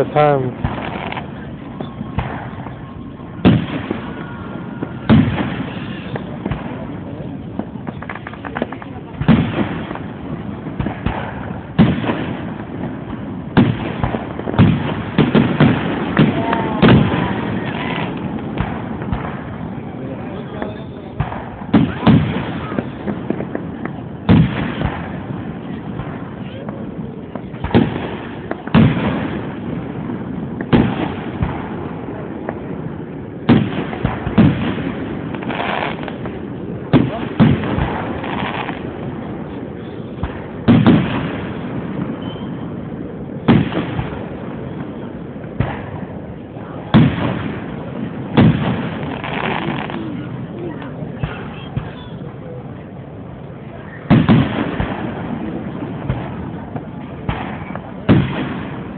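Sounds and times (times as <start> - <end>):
faint firework pops: 0.0 - 32.8, 33.4 - 42.8, 43.4 - 46.2, 46.8 - 52.6, 53.9 - 58.9
fireworks bursting in bangs: 0.0 - 58.9.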